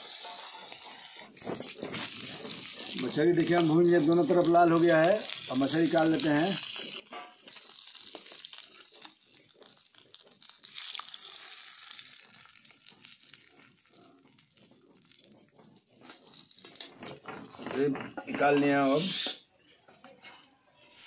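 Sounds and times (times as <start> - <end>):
hot oil sizzling and crackling: 0.0 - 18.6.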